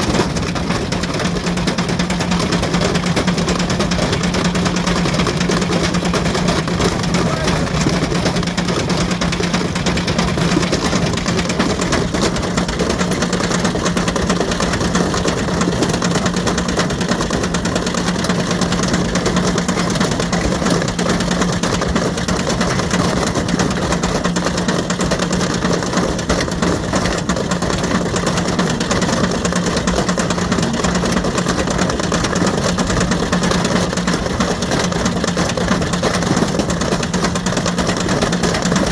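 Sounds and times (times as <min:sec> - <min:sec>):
brick rattling and knocking in drum: 0:00.0 - 0:38.9
washing machine hum: 0:00.0 - 0:38.9.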